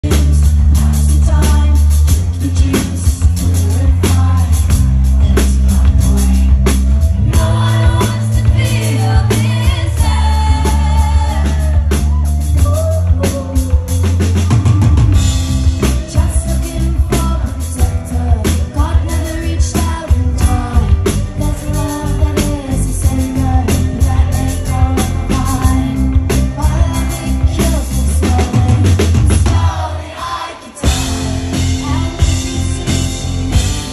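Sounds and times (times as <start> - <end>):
live rock band: 0.0 - 33.9
woman singing lead: 0.0 - 33.9.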